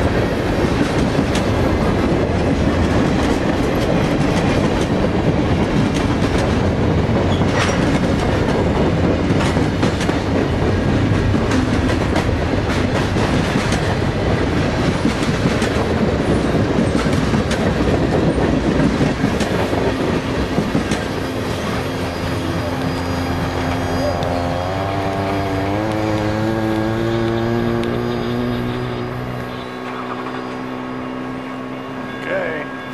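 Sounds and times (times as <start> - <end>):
wheels clanking over rail joints: 0.0 - 32.3
steel wheels rumbling on rail: 0.0 - 32.9.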